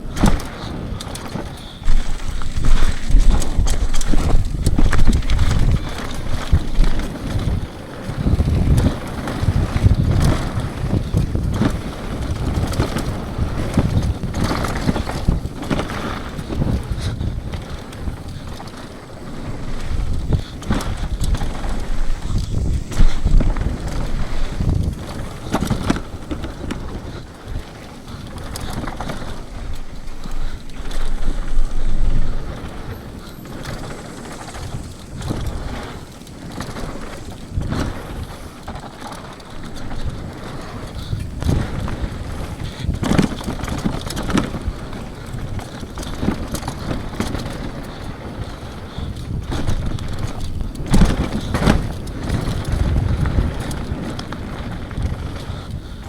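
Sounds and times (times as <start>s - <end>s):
bike rattling over rough ground: 0.0s - 56.0s
bike tyres on dirt: 0.0s - 56.0s
wind buffeting microphone: 0.0s - 56.0s.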